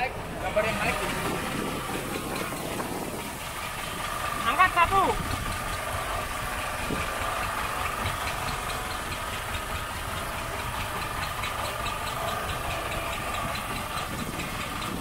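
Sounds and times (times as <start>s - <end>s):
boat engine idling: 0.0s - 15.0s
faint regular ticking: 0.3s - 15.0s.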